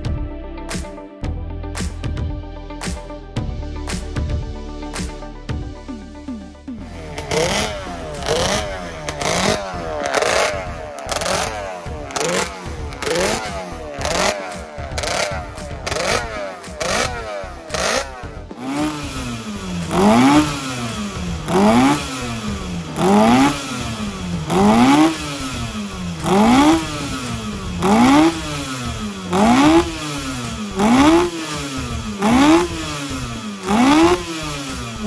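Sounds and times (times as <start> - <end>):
boat engine revving: 6.7 - 35.0.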